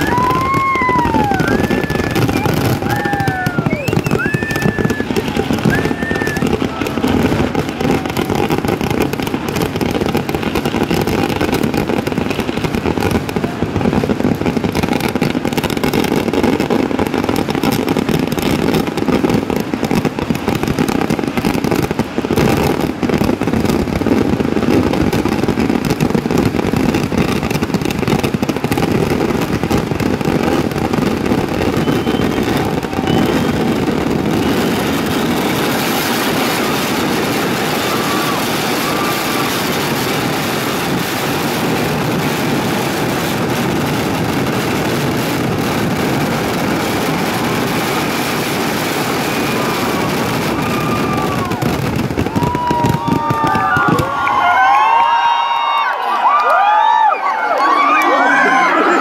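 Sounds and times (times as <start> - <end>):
firework whistles: 0.0 - 55.5
fireworks exploding in a barrage: 0.0 - 59.0.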